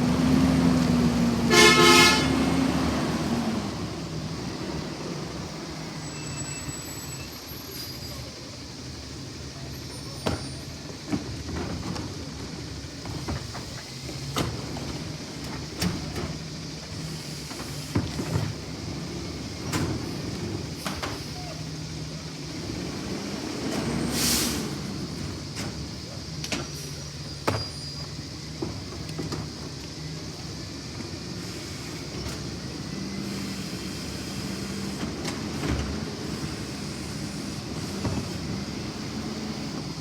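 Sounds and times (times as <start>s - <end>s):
garbage truck engine running: 0.0s - 40.0s.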